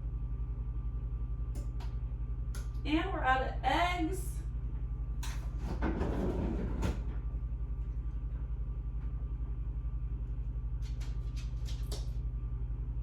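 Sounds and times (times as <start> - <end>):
low pulsing hum: 0.0 - 13.0.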